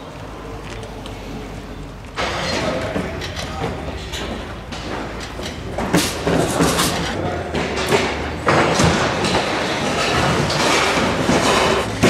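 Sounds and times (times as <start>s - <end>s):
rattling metal clatter: 2.2s - 12.0s.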